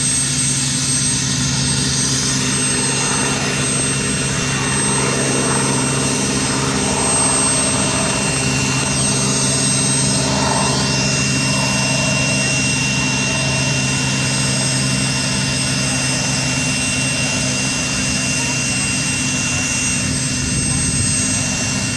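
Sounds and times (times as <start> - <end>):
helicopter rotor drone: 0.0 - 21.9
high turbine whine: 0.0 - 21.9.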